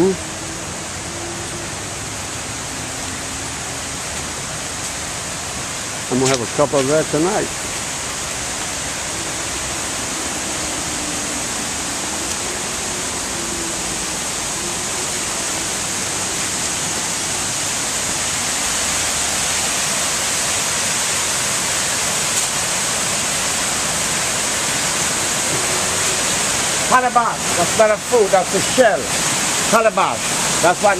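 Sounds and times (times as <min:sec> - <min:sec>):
flowing water rushing: 0:00.0 - 0:30.9.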